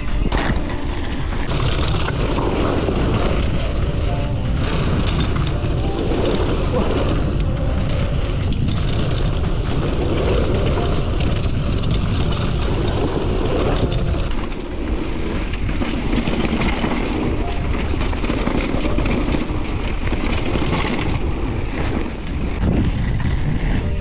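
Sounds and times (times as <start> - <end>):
bike rattling and clicking: 0.0 - 24.0
wind rushing over microphone: 0.0 - 24.0.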